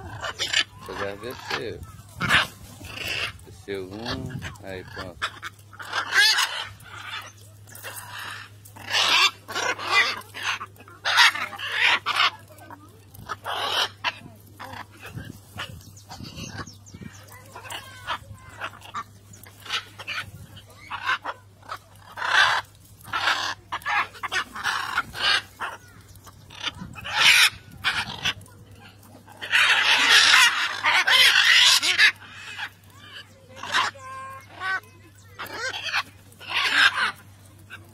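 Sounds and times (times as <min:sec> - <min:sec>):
macaws squawking: 0:00.0 - 0:37.9.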